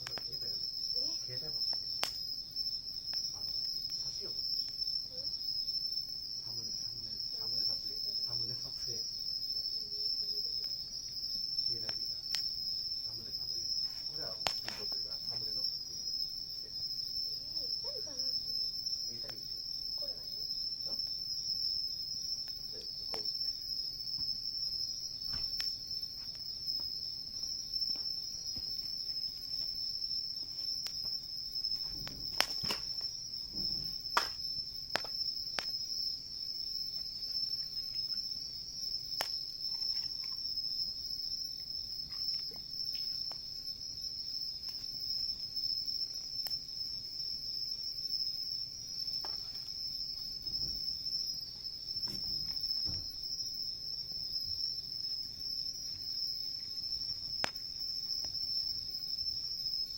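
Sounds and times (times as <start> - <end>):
campfire snapping: 0.0 - 48.0, 55.2 - 58.6
crickets chirping: 0.0 - 59.9.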